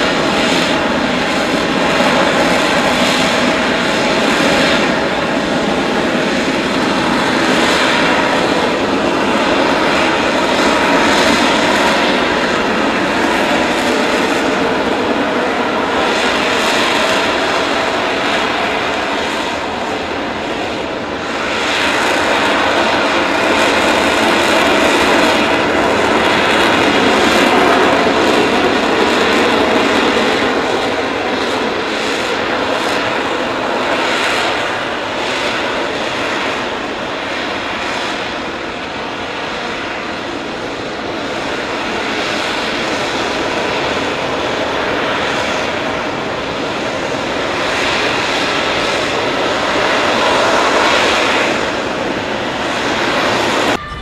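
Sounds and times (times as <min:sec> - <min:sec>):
jet engine hovering: 0:00.0 - 0:54.0.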